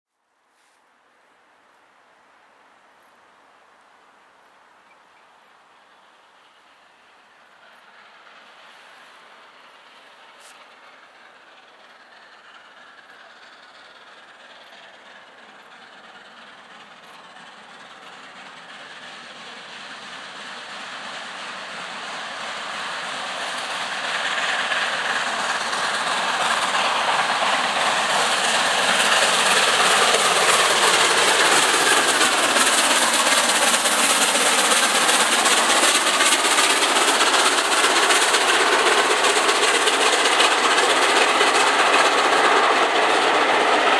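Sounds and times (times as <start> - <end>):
steam locomotive passing: 0.5 - 43.9
train coaches running past: 0.5 - 43.9.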